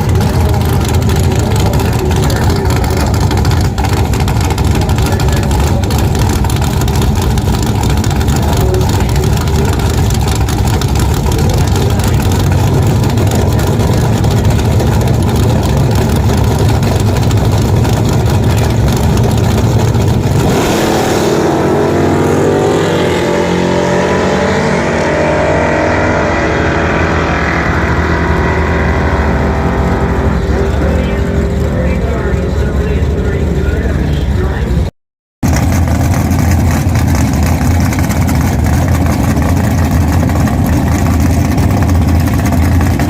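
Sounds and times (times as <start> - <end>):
race car engine running hard: 0.0 - 43.0.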